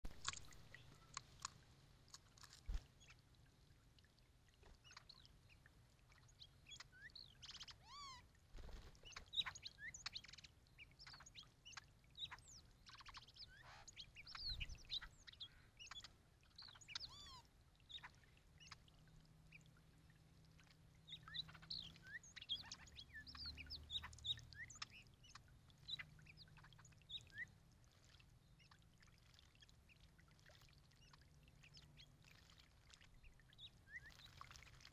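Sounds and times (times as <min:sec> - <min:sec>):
water splashing in birdbath: 0:00.0 - 0:34.9.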